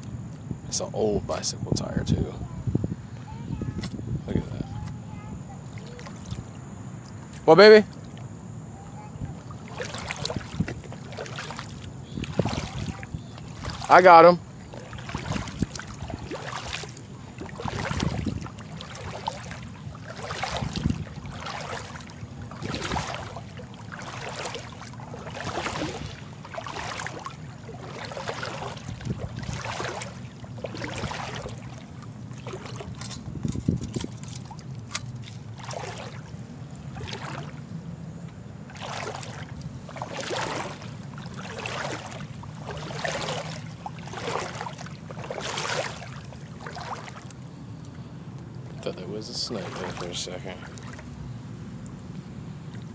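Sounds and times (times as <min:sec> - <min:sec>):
footsteps wading through water: 0:02.4 - 0:52.9.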